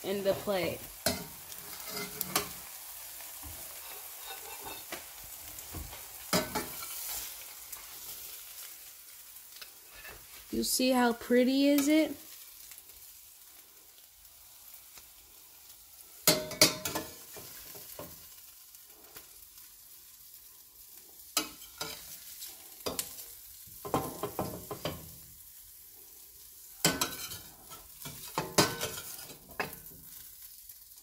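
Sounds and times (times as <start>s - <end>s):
faint sizzle: 0.0s - 31.0s
utensil scraping in frying pan: 0.0s - 31.0s.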